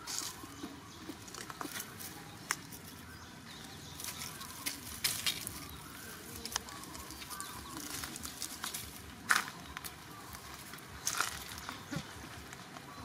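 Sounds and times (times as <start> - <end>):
dry leaves crackling and rustling: 0.0 - 13.0.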